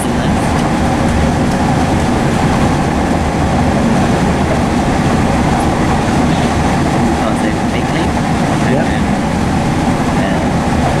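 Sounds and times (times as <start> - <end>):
train interior running rumble: 0.0 - 11.0.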